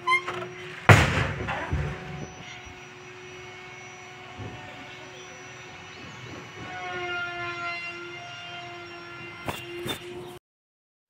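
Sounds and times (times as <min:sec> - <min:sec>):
droning pitched hum: 0:00.0 - 0:10.4.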